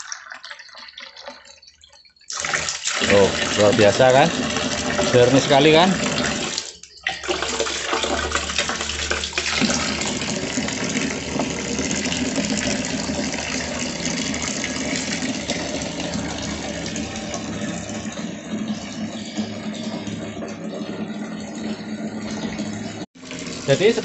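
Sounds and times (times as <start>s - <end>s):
water pouring into a glass: 0.0s - 24.0s.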